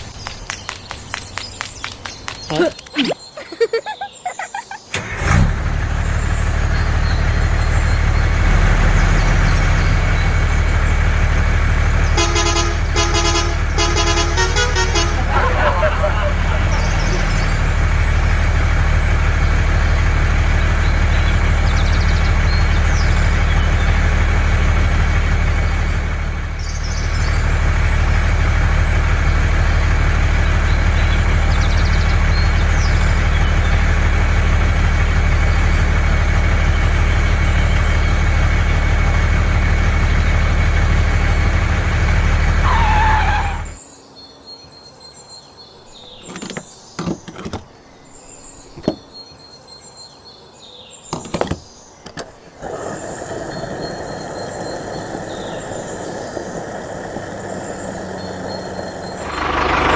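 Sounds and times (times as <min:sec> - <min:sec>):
engine running with low hum: 0:03.6 - 0:43.8, 0:51.2 - 0:59.9.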